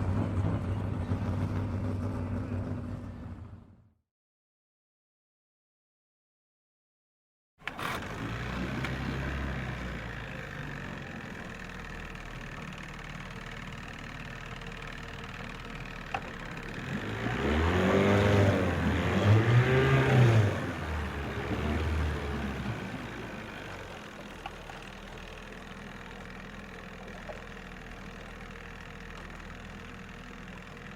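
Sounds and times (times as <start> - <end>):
car engine idling and revving: 0.0 - 3.9, 7.6 - 30.9.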